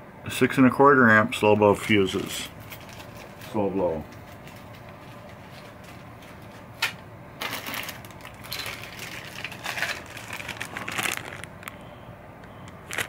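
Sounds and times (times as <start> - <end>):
plastic packaging rustling: 1.7 - 12.0, 12.6 - 13.0.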